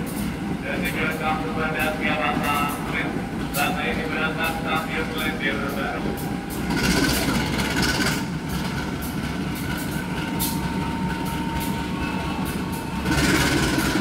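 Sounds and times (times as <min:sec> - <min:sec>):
train cars rumbling: 0:00.0 - 0:14.0.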